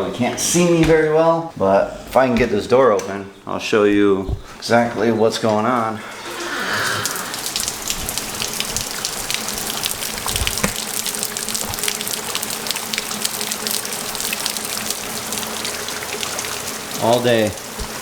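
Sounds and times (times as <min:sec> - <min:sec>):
steady rain hiss: 0:03.5 - 0:18.0.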